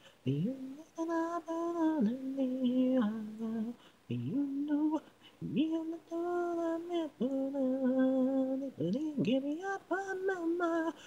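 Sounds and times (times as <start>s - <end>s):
person singing a cappella: 0.0s - 11.0s.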